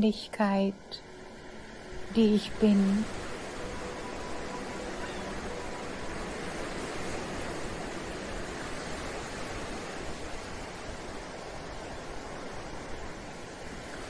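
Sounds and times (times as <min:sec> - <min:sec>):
ocean waves washing: 0:00.0 - 0:14.0.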